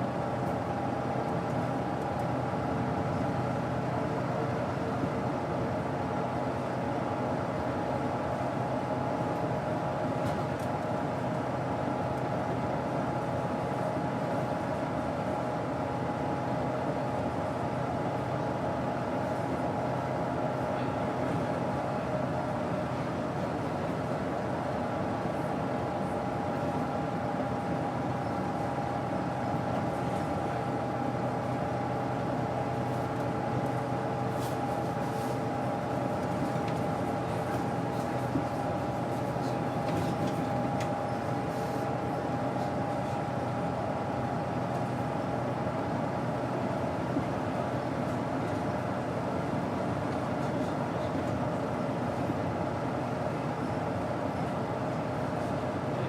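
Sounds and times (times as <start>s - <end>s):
bus engine droning with whine: 0.0s - 56.0s.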